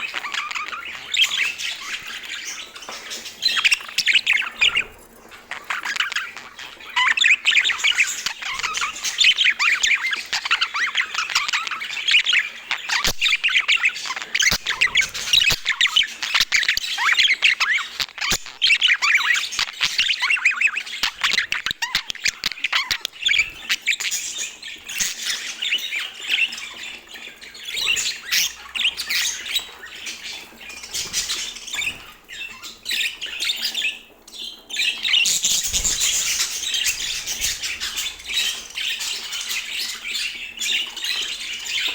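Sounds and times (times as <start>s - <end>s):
budgerigars chattering and warbling: 0.0s - 41.9s.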